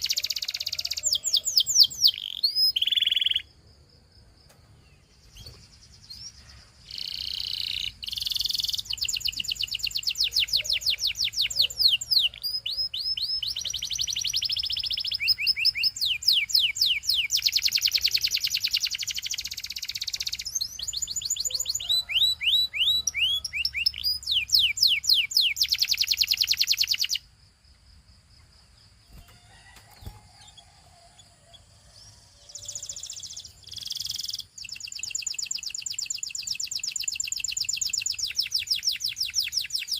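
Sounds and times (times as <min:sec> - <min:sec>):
canary singing trills: 0:00.0 - 0:03.6, 0:04.9 - 0:27.3, 0:29.1 - 0:39.9.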